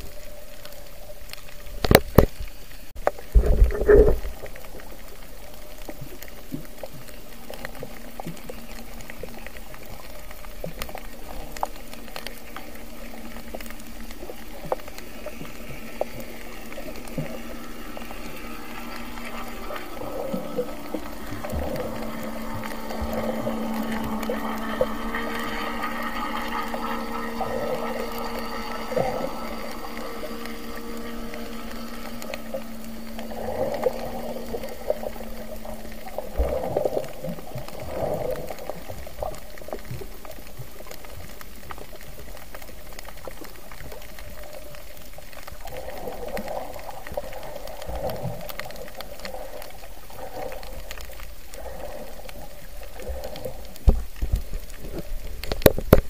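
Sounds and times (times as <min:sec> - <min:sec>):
steady multi-tone hum: 0:00.0 - 0:56.0
water surging and bubbling underwater: 0:00.0 - 0:56.0.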